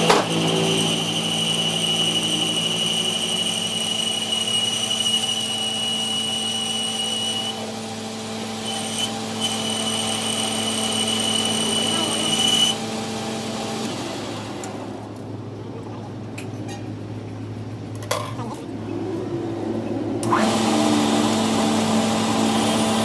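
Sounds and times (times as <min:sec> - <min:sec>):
workshop machine whining: 0:00.0 - 0:23.0.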